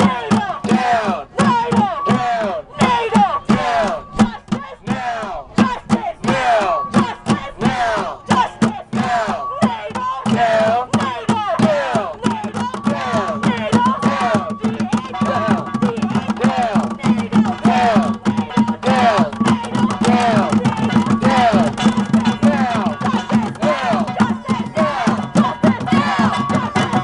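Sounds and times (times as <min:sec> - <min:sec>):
bucket drums beaten with sticks: 0:00.0 - 0:27.0
crowd shouting chants: 0:00.0 - 0:27.0.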